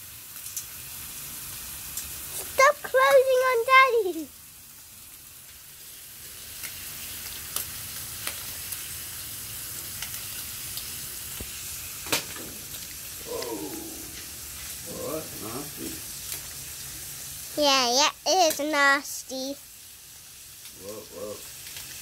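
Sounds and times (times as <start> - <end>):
bacon sizzling: 0.0 - 22.0.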